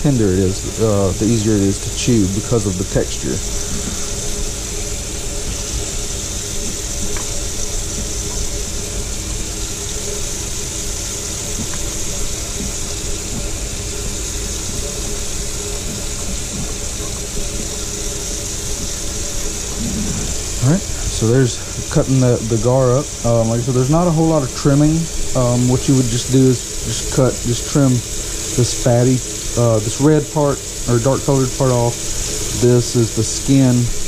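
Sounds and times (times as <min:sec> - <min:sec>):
constant hiss: 0:00.0 - 0:34.0
steady mechanical hum: 0:00.0 - 0:34.0.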